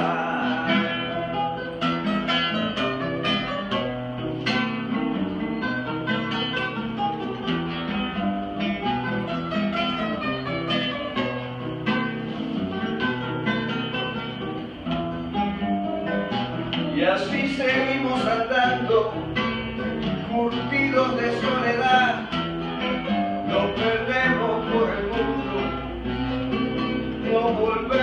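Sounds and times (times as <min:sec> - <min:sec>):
acoustic guitars playing: 0:00.0 - 0:28.0.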